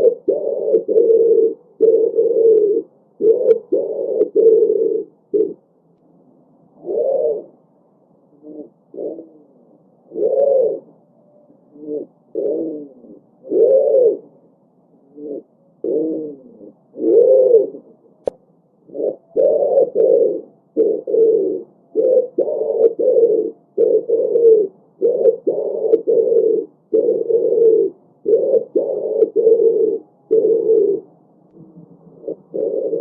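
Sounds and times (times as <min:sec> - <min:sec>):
pigeons cooing: 0:00.0 - 0:05.6, 0:06.7 - 0:33.0.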